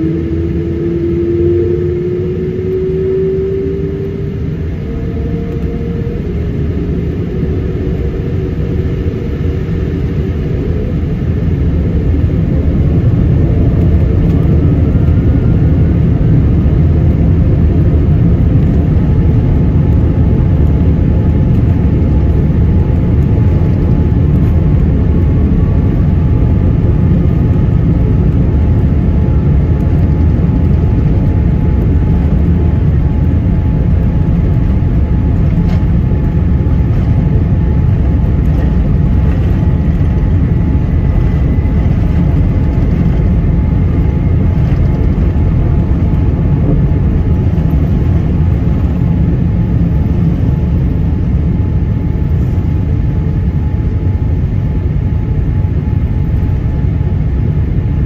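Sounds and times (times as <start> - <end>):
faint jet engine whine: 0.0 - 58.0
jet airliner rumbling inside cabin: 0.0 - 58.0.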